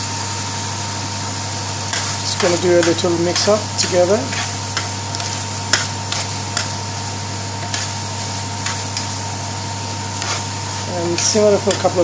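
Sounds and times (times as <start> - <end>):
steady hum and hiss: 0.0 - 12.0
spatula stirring minced meat: 1.8 - 12.0.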